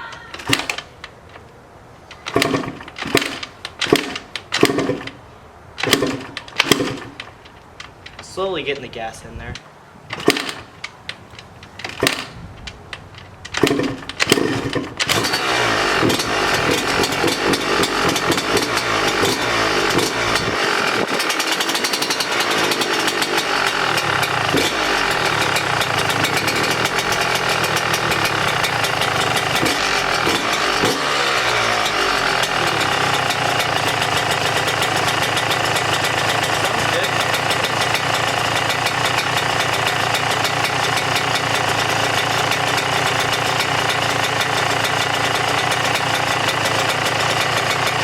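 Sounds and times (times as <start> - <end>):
motorcycle kick-start kicks: 0.0 - 5.2, 5.8 - 8.8, 9.5 - 48.0
two-stroke engine revving: 0.4 - 0.8, 2.2 - 5.2, 5.8 - 7.3, 10.1 - 10.7, 11.8 - 12.4, 13.5 - 48.0.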